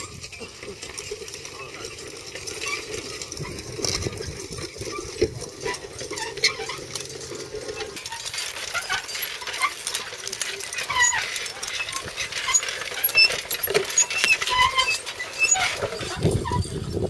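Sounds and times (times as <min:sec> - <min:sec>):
harness chains jingling: 0:00.0 - 0:17.0
harrow rustling through soil: 0:00.0 - 0:17.0.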